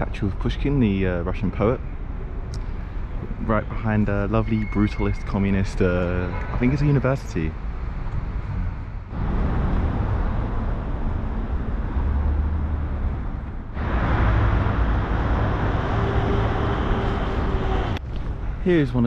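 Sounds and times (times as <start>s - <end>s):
low traffic rumble: 0.0s - 19.0s
passing cars: 0.0s - 19.0s.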